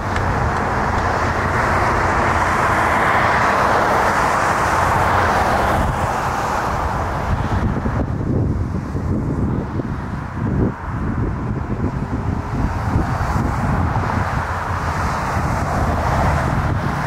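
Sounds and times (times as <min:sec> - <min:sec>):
vehicle passing: 0:00.0 - 0:17.0
wind on microphone: 0:00.0 - 0:17.0.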